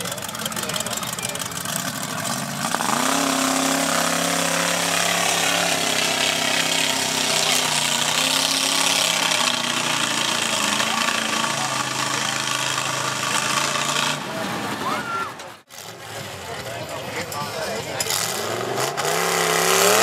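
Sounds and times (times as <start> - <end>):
truck churning through mud: 0.0 - 20.0
truck engine revving: 0.0 - 20.0.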